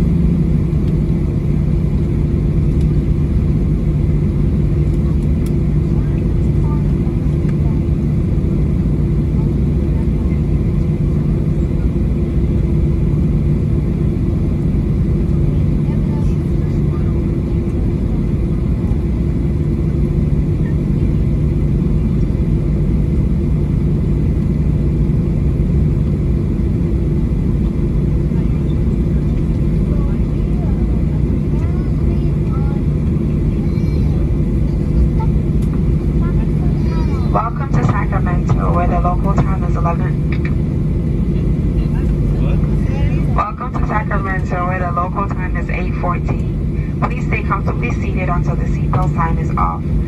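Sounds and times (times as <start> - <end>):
airplane engines droning: 0.0 - 50.0
low cabin hum: 0.0 - 50.0.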